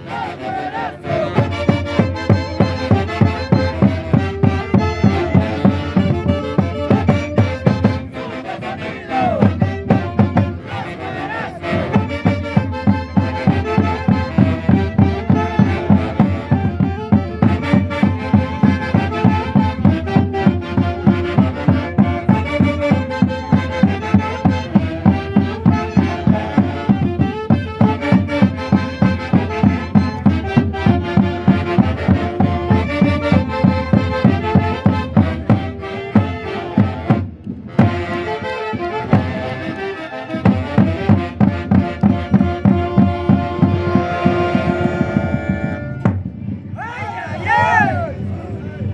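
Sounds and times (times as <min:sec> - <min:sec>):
band playing festival music: 0:00.0 - 0:48.2.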